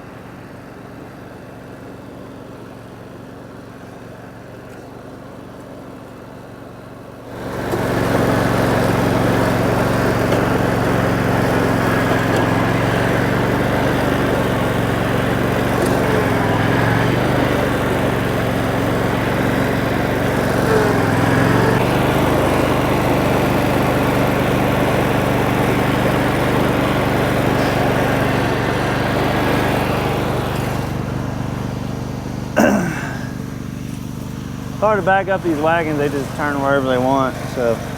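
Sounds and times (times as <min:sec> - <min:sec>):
small engine running: 0:00.0 - 0:37.9.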